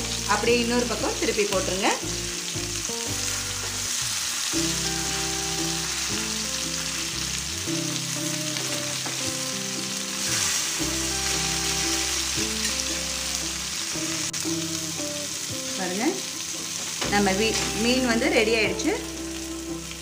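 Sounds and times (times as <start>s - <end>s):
background music: 0.0s - 20.0s
fish sizzling in a pan: 0.0s - 20.0s.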